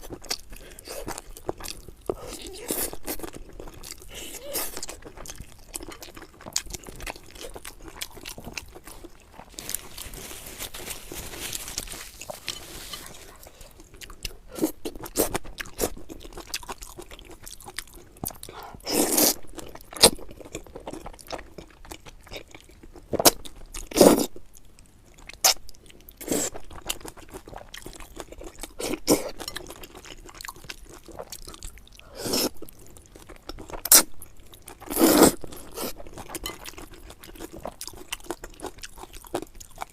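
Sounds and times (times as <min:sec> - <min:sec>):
person chewing: 0:00.0 - 0:24.3, 0:25.1 - 0:39.9.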